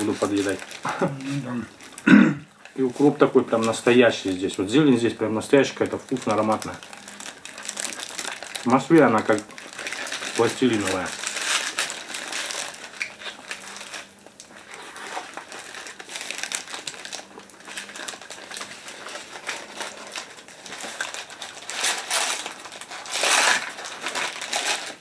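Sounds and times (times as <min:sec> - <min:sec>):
paper wrappers crinkling: 0:00.0 - 0:25.0.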